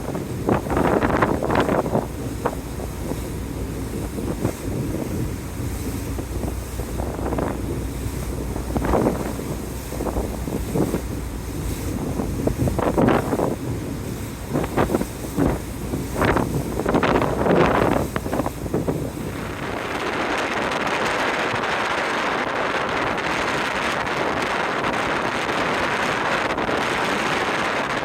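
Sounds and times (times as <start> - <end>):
sea washing: 0.0 - 28.0
wind buffeting microphone: 0.0 - 28.0.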